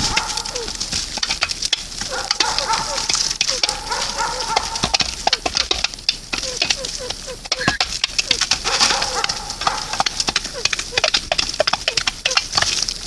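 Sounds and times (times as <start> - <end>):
birds calling: 0.0 - 13.0
sharp clicks patter: 0.0 - 13.0.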